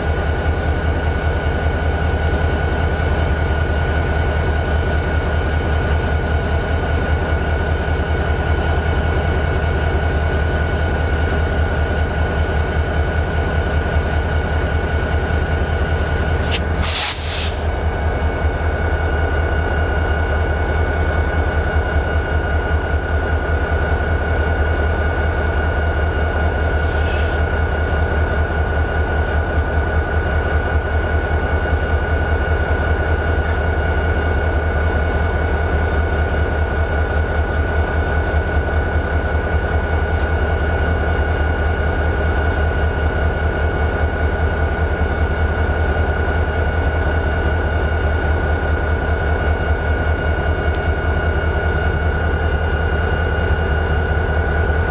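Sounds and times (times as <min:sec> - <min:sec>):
diesel locomotive idling: 0:00.0 - 0:54.9.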